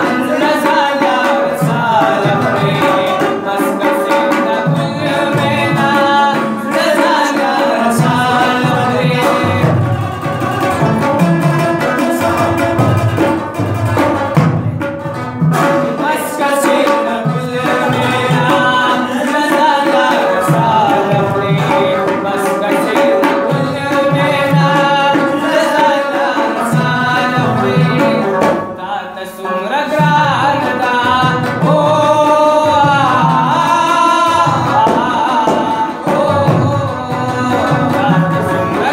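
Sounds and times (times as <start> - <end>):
hand drum rhythm: 0.0 - 38.9.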